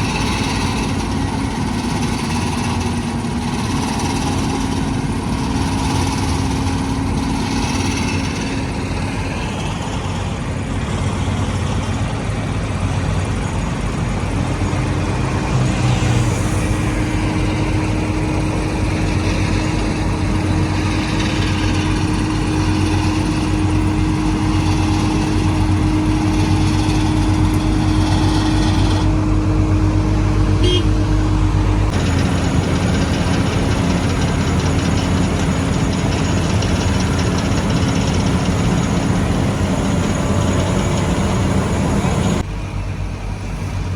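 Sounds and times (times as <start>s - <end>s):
construction machinery engines: 0.0s - 43.9s.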